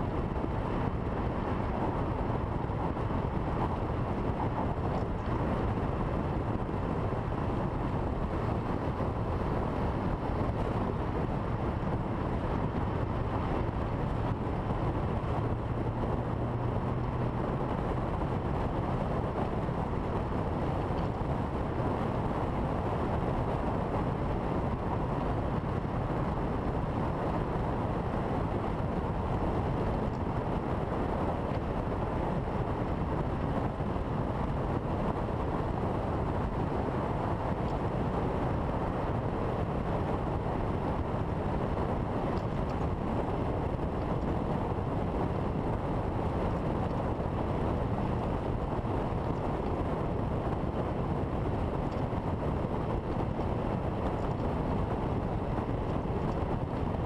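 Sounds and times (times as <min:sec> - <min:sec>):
wind and road noise: 0:00.0 - 0:57.0
wind buffeting microphone: 0:00.0 - 0:57.0.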